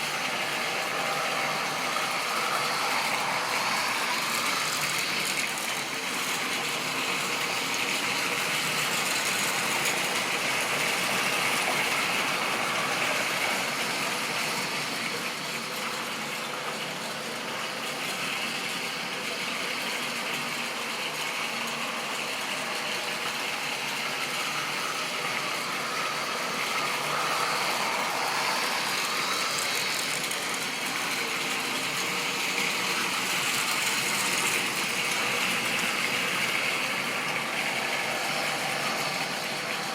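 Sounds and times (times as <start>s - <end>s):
model train motor whir: 0.0s - 39.9s.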